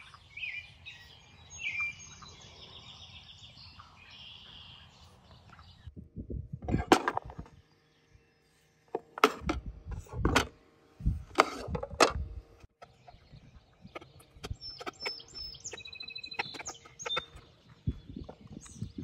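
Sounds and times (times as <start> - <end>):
birds chirping: 0.0 - 6.0, 6.7 - 19.0.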